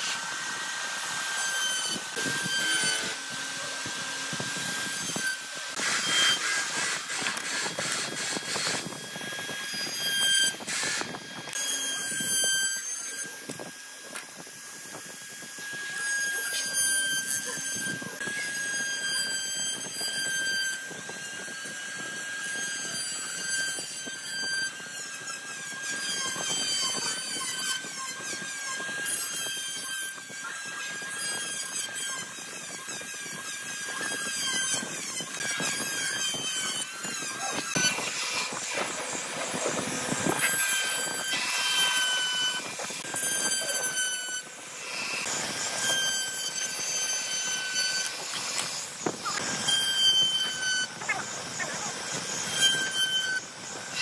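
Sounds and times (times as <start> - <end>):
rotary tool grinding wood: 0.0 - 54.0.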